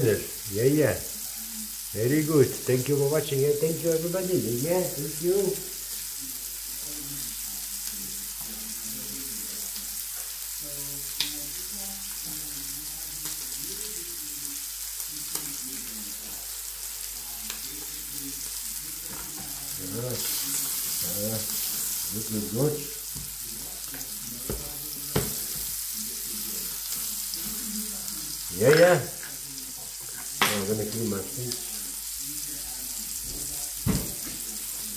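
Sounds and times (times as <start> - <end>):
meat sizzling in a frying pan: 0.0 - 34.9.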